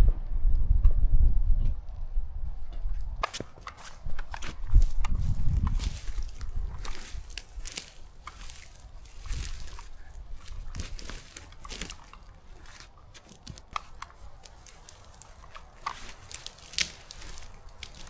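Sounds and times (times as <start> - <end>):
crunches and rustles: 3.0 - 18.0.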